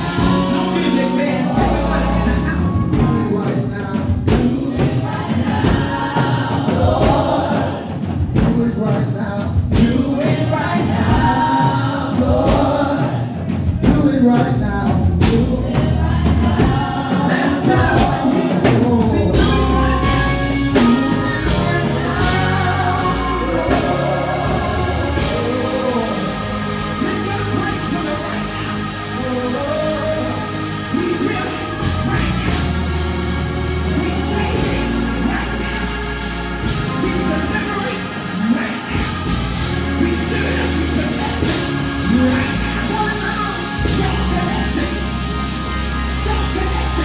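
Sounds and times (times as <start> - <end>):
gospel singing with instruments: 0.0 - 47.0.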